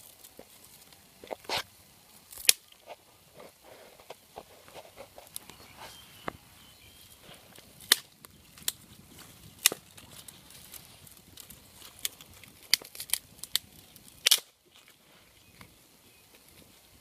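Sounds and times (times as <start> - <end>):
twig fire crackling and popping: 0.0 - 17.0.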